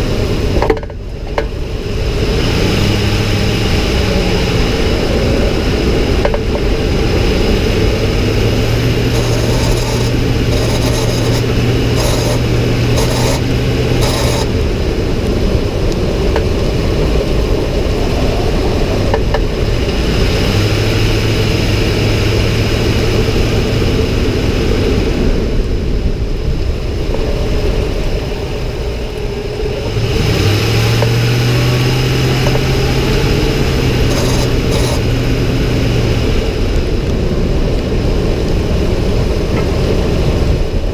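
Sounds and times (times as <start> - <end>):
low drone: 0.0 - 40.9
truck driving rumble: 0.0 - 40.9.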